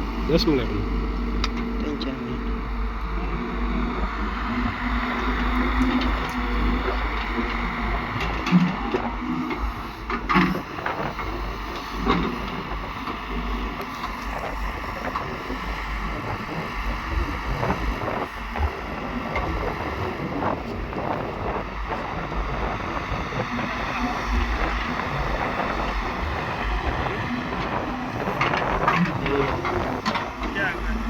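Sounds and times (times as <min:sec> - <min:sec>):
diesel machinery engines running: 0:00.0 - 0:31.0
wind buffeting microphone: 0:00.0 - 0:31.0.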